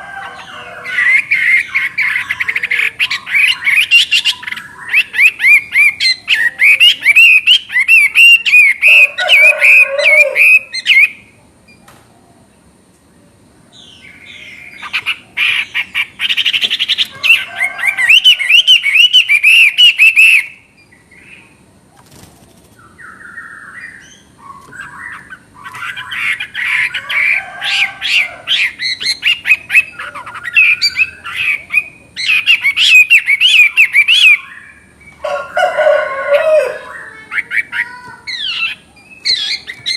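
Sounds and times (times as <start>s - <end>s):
bird singing warbling song: 0.0s - 11.9s, 13.1s - 39.9s.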